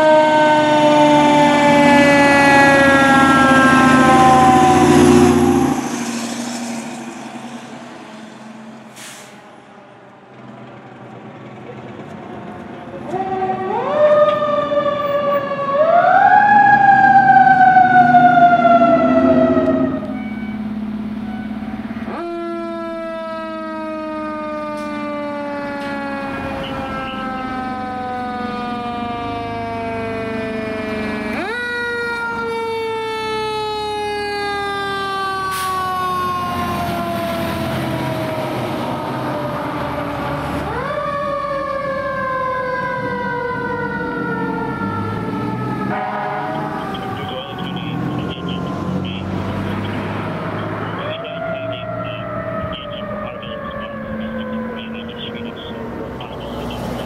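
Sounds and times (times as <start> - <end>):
second siren wailing: 0.0 - 9.7, 12.8 - 57.0
fire engine siren wailing: 0.0 - 57.0.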